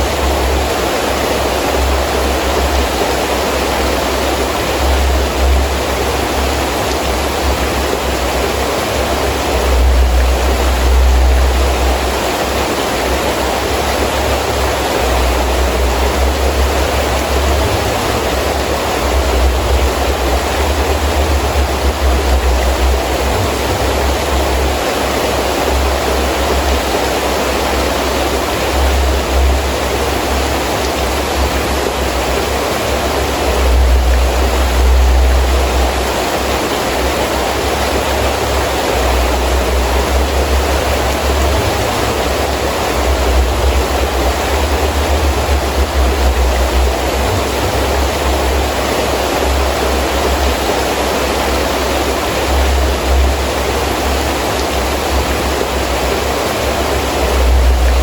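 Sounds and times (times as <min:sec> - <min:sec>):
gusting wind rumbling: 0:00.0 - 0:58.0
heavy rain falling: 0:00.0 - 0:58.0.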